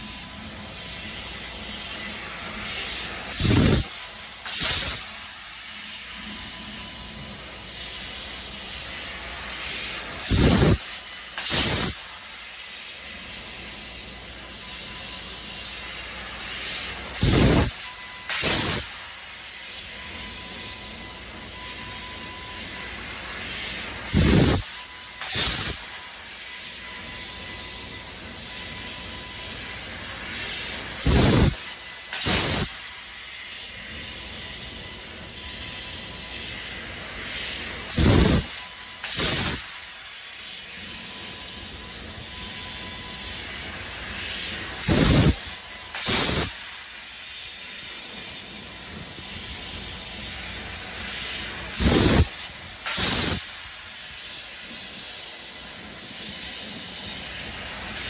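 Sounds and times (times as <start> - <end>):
laser cutter hissing: 0.0 - 58.0.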